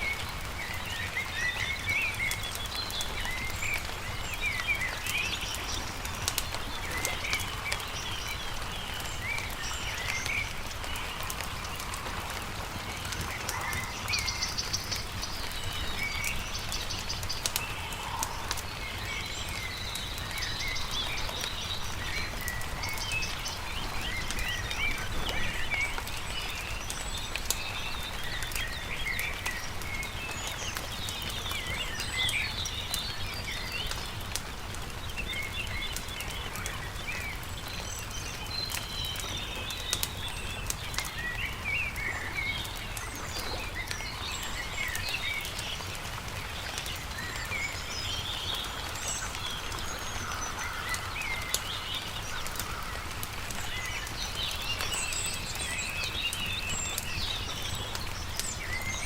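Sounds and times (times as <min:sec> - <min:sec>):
campfire crackling: 0:00.0 - 0:59.0
songbirds chirping: 0:00.0 - 0:59.0.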